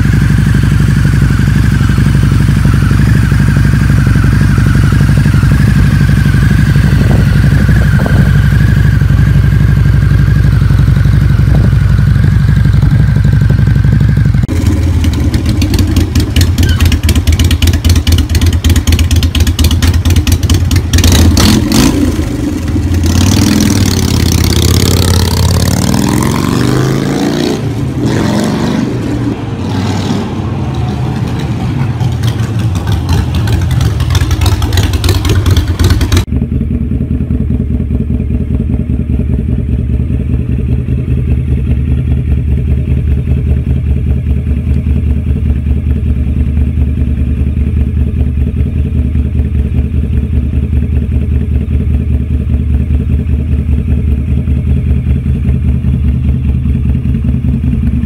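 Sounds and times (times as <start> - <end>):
motorcycle engine idling: 0.0 - 26.8, 30.9 - 58.0
motorcycle revving and riding away: 0.0 - 58.0.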